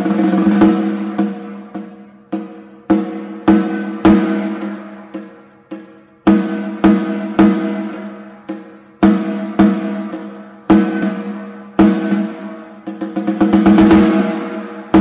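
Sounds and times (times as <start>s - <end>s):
snare drum strokes ringing: 0.0s - 15.0s.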